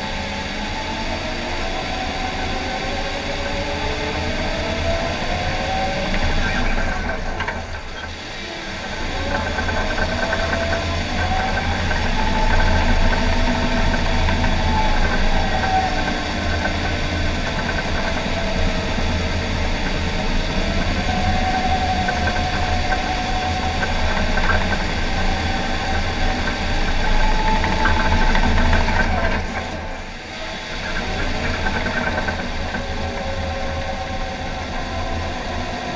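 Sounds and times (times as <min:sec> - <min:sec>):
diesel engine drone: 0:00.0 - 0:35.9
wavering whine: 0:00.0 - 0:35.9.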